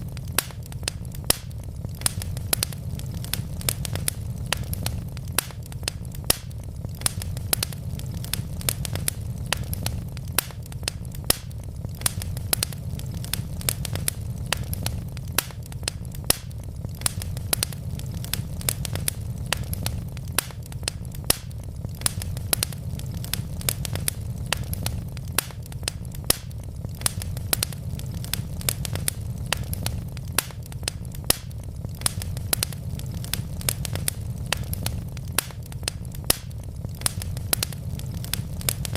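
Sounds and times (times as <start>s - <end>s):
burning logs crackling: 0.0s - 38.9s
flames rumbling: 0.0s - 38.9s.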